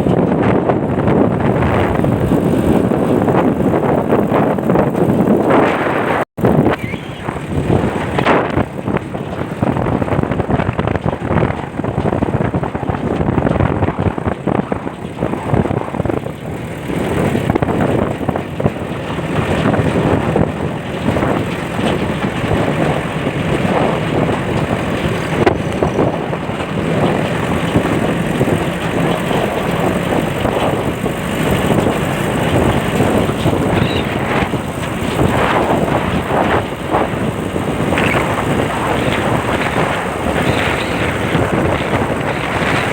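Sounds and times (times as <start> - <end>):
car engine running: 0.0 - 42.9
wind buffeting moving car: 0.0 - 42.9.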